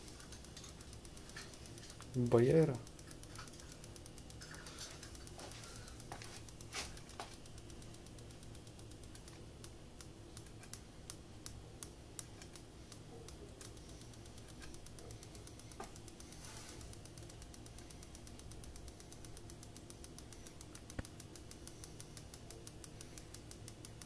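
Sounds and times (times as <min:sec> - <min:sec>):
faint light clicks: 0:00.0 - 0:24.0
low steady hum: 0:00.0 - 0:24.0.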